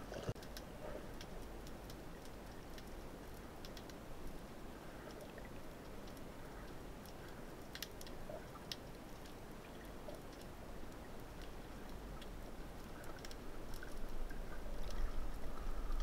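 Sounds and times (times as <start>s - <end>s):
sharp clicks and crackles: 0.0s - 15.2s
underwater water noise: 0.0s - 16.0s.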